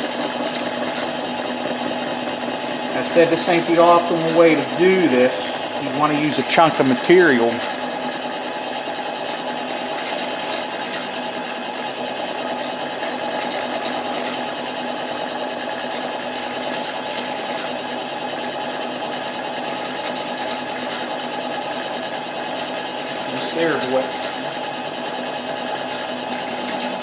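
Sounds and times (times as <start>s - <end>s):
lathe motor whining: 0.0s - 27.0s.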